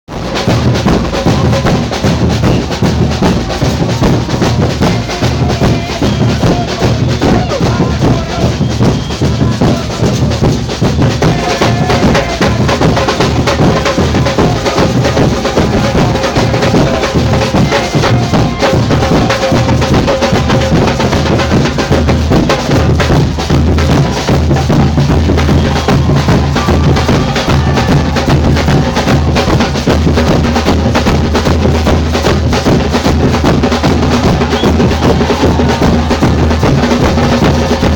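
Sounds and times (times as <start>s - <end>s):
deep bass drums: 0.1s - 37.9s
samba percussion band: 0.1s - 37.9s.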